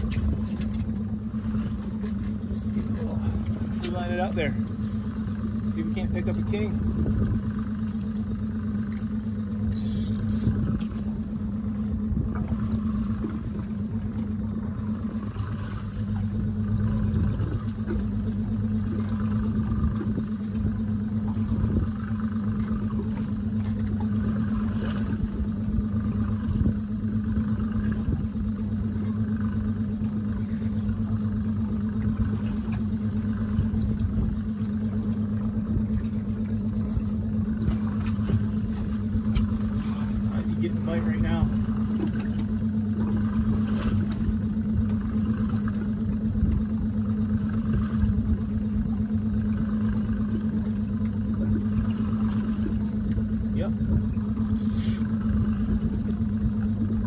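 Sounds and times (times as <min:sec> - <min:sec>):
boat motor humming: 0:00.0 - 0:57.0.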